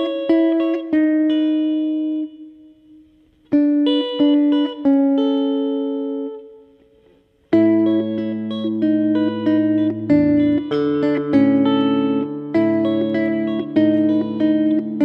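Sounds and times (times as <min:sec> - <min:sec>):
plucked guitar melody: 0:00.0 - 0:02.5, 0:03.6 - 0:06.5, 0:07.5 - 0:15.0.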